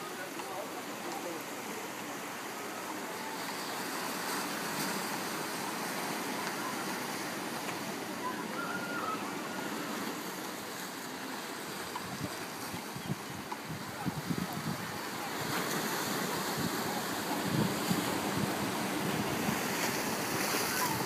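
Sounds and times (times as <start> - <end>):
waves breaking over rocks: 0.0 - 21.0.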